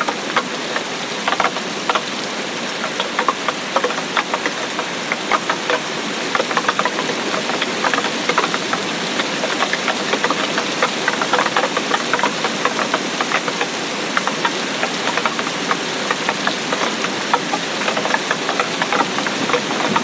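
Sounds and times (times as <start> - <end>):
drops ticking on hard surface: 0.0 - 20.0
rain hiss: 0.0 - 20.0.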